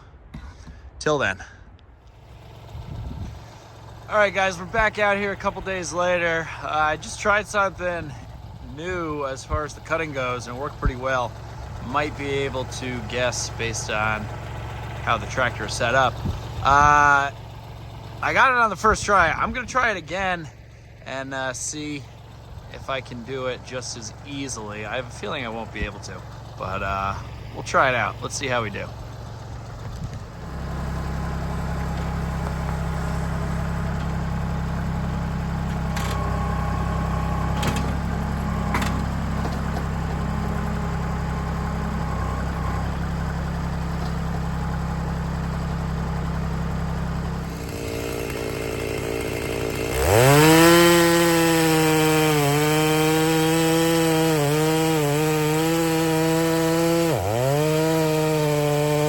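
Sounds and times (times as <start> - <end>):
tractor diesel engine running: 0.0 - 59.0
chainsaw cutting wood: 2.1 - 59.0.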